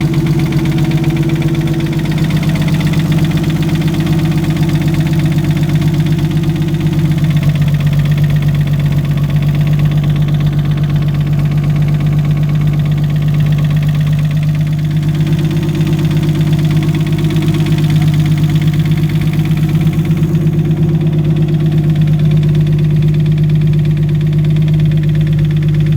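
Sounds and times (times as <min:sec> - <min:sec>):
car engine idling: 0:00.0 - 0:25.9
rapid knocking inside engine: 0:00.0 - 0:25.9.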